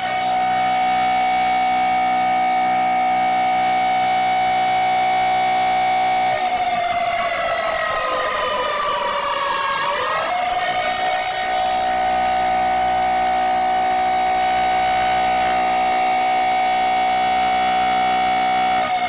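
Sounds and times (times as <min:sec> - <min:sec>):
emergency siren wailing: 0:00.0 - 0:19.0
low steady drone: 0:00.0 - 0:19.0.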